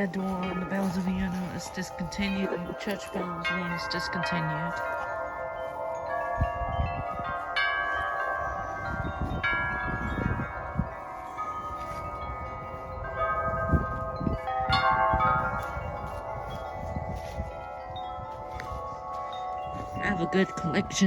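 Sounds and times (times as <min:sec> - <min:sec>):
metal wind chimes ringing: 0:00.0 - 0:21.0
wind rumbling on microphone: 0:00.0 - 0:21.0.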